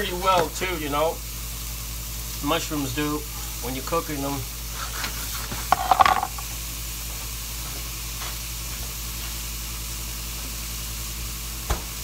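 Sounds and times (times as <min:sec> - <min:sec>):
mushrooms sizzling in oil: 0:00.0 - 0:11.8.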